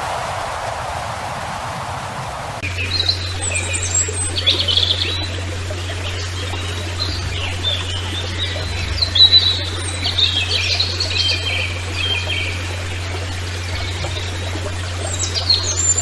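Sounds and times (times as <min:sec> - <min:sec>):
low hum: 0:00.0 - 0:16.0
small birds chirping: 0:02.5 - 0:16.0.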